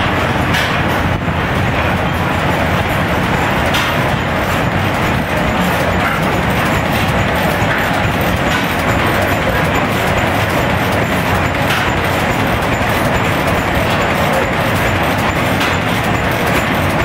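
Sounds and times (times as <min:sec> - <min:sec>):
engines clattering: 0:00.0 - 0:17.0.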